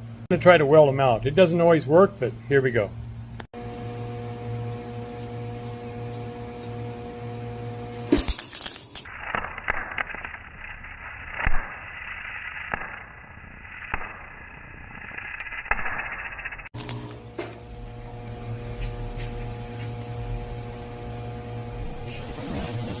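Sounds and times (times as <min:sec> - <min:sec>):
steady hum: 0:00.0 - 0:23.0
welder crackling and popping: 0:03.5 - 0:23.0.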